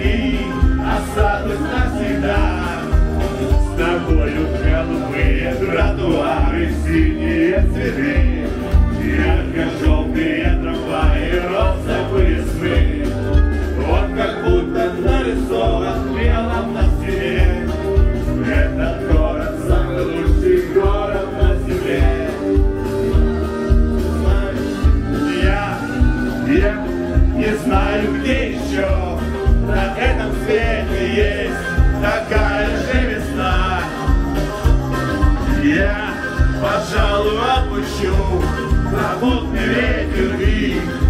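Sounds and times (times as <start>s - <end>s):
man singing into a microphone: 0.0s - 13.2s, 13.8s - 22.7s, 24.2s - 34.2s, 35.5s - 41.0s
backing track with steady beat: 0.0s - 41.0s.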